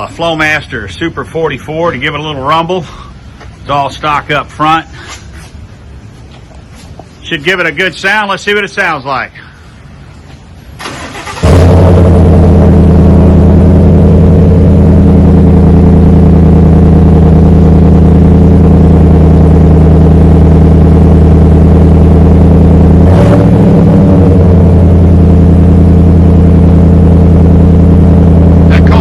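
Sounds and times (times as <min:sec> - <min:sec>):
car engine idling: 0:00.0 - 0:08.7, 0:09.3 - 0:29.0.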